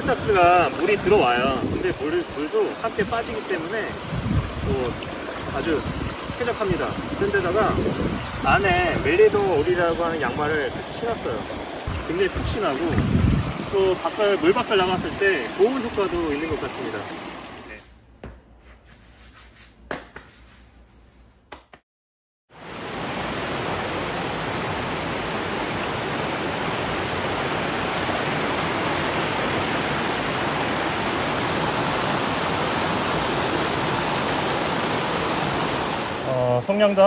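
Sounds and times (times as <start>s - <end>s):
stream rushing over riffles: 0.0s - 17.8s, 22.6s - 37.0s.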